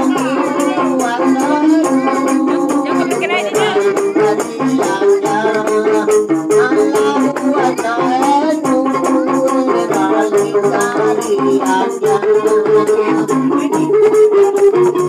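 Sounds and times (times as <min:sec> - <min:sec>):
man singing: 0:00.0 - 0:14.6
hand frame drums beating: 0:00.0 - 0:15.0.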